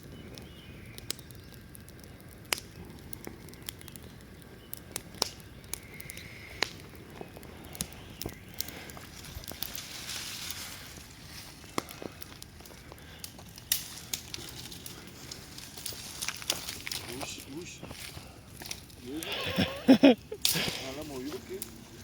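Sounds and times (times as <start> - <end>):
bonfire crackling and popping: 0.0 - 22.0
fire hissing: 0.0 - 22.0.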